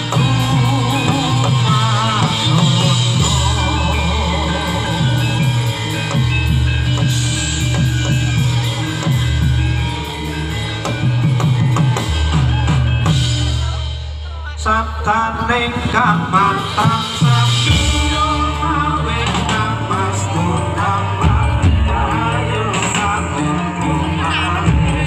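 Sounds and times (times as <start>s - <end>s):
deep bass notes: 0.0s - 25.0s
live band music: 0.0s - 25.0s.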